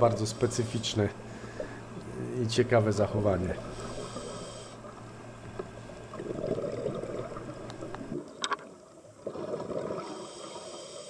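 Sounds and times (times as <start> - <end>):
underwater bubbles gurgling: 1.1 - 11.0.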